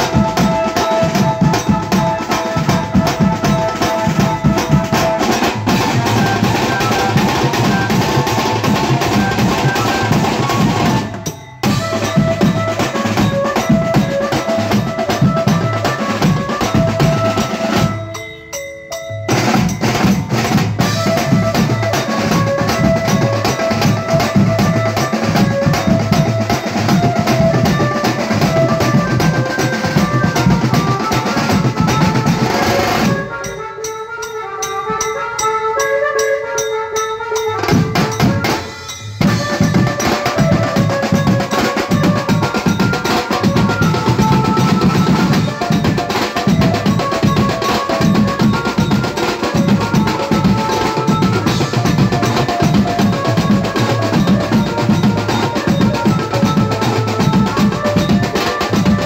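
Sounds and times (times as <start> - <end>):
snare drums: 0.0 - 18.1, 19.3 - 35.4, 37.5 - 59.0.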